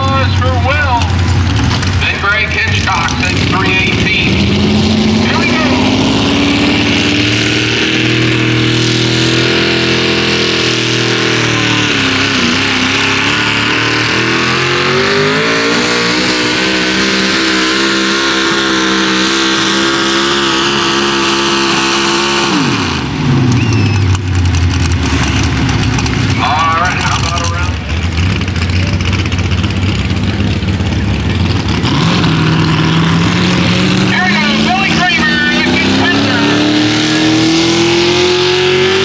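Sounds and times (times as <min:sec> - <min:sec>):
truck engine revving at high rpm: 0:00.0 - 0:39.0.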